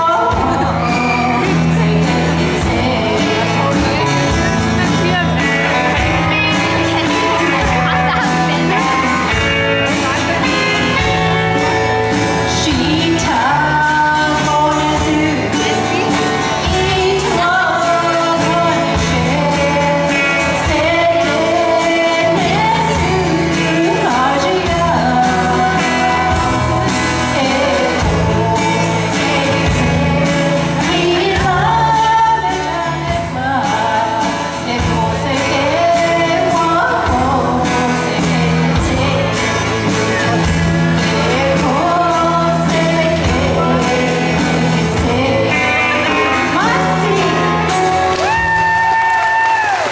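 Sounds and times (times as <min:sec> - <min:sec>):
instrumental music with steady beat: 0:00.0 - 0:49.9
woman singing: 0:00.0 - 0:49.9.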